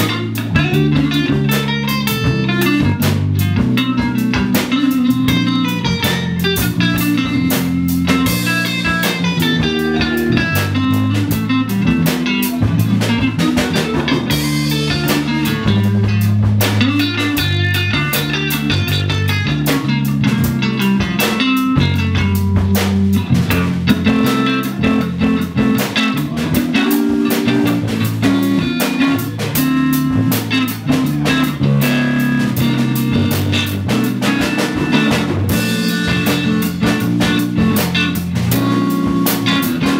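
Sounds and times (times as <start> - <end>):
drum kit: 0.0 - 39.9
electric bass guitar: 0.0 - 39.9
electric guitar: 0.0 - 39.9.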